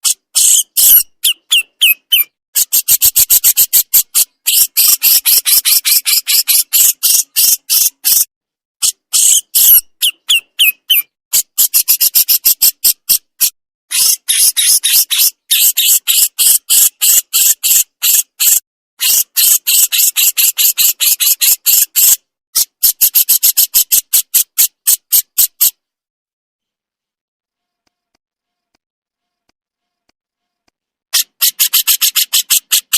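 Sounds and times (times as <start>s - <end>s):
bird giving harsh scolding calls: 0.0s - 13.2s, 13.9s - 25.8s, 31.2s - 32.9s.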